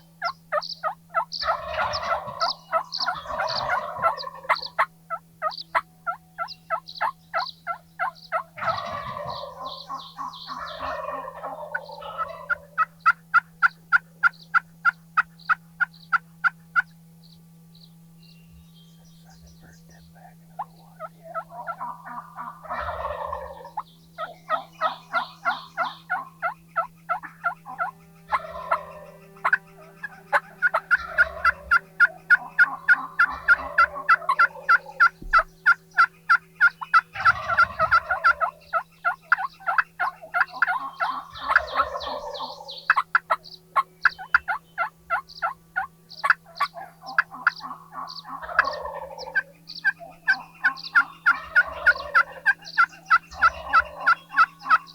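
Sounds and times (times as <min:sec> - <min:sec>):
turkeys gobbling: 0:00.0 - 0:16.9, 0:19.2 - 0:54.9
steady low hum: 0:00.0 - 0:54.9
turkey yelps: 0:00.2 - 0:16.9, 0:19.4 - 0:54.9.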